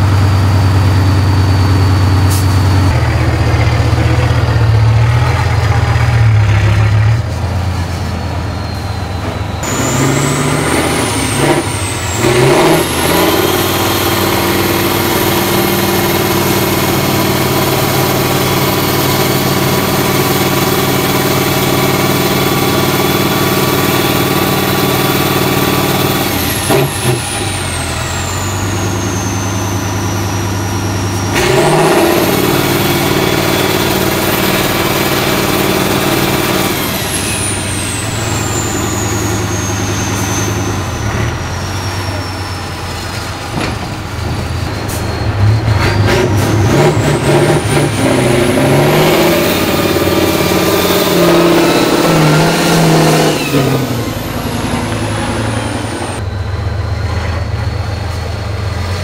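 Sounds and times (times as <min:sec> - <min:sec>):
high whine: 0:00.0 - 0:59.0
truck diesel engine revving: 0:00.0 - 0:59.0.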